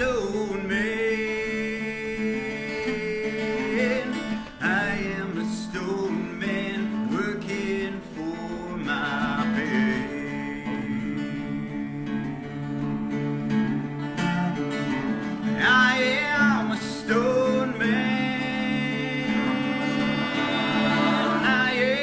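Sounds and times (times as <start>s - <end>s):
man singing: 0.0s - 14.1s, 15.4s - 22.0s
strummed acoustic guitar: 0.0s - 22.0s.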